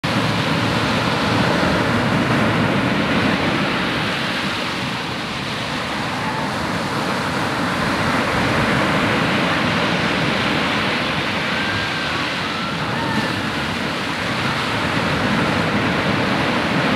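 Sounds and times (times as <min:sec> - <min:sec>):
waves breaking on beach: 0:00.0 - 0:16.9.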